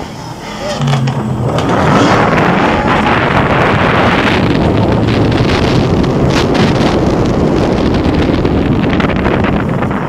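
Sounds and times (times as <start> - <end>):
roller coaster train rumble: 0.0 - 10.0
strong wind on microphone: 0.0 - 10.0.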